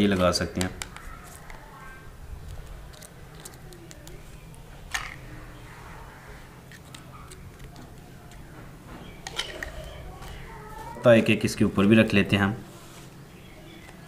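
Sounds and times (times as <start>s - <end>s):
faint low background noise: 0.0s - 14.0s.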